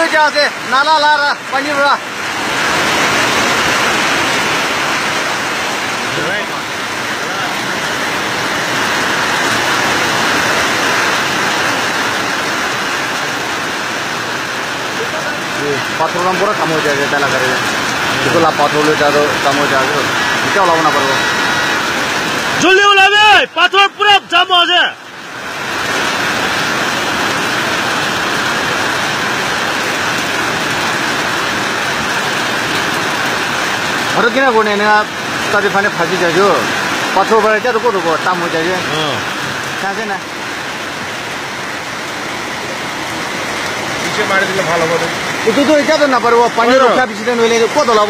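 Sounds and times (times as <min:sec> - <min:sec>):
floodwater rushing down road: 0:00.0 - 0:48.0
heavy rain: 0:00.0 - 0:48.0.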